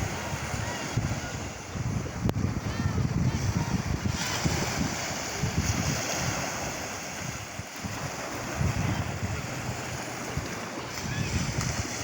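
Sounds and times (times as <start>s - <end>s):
ocean surf washing: 0.0s - 12.0s
wind on microphone: 0.0s - 12.0s.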